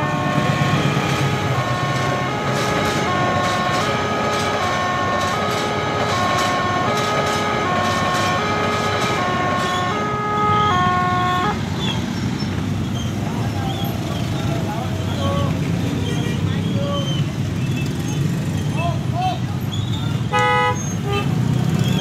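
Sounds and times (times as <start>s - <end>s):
passing train rolling: 0.0s - 19.2s.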